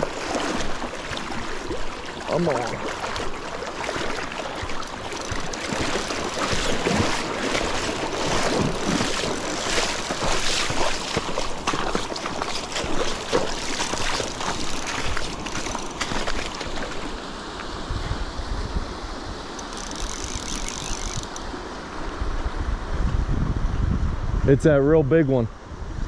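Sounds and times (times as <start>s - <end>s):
creek water rushing: 0.0s - 22.9s.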